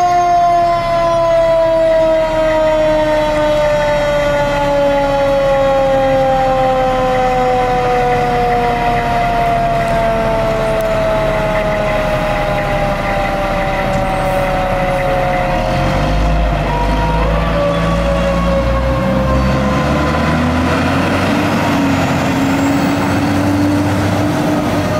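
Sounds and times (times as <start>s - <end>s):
fire truck siren winding: 0.0s - 24.9s
truck engine rumble: 0.0s - 24.9s.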